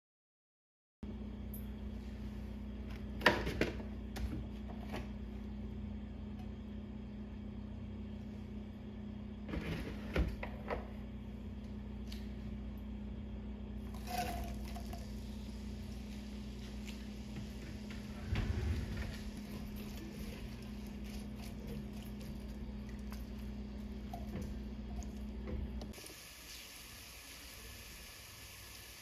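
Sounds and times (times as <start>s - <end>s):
steady low hum: 1.0s - 26.0s.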